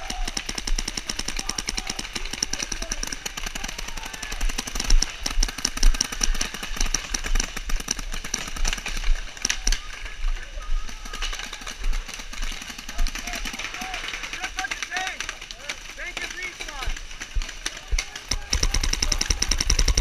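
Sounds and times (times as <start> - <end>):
paintball markers firing: 0.0 - 10.2, 10.8 - 20.0.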